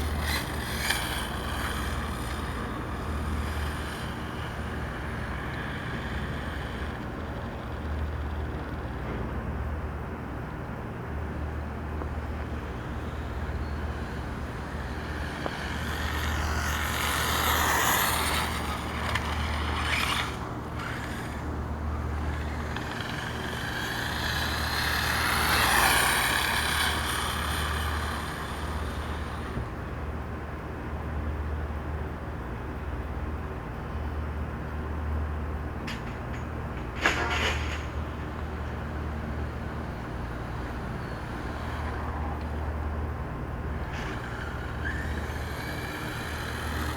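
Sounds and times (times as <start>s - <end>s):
rc truck motor whine: 0.0s - 9.8s, 10.4s - 32.2s, 34.3s - 46.9s
steady low hum: 0.0s - 46.9s.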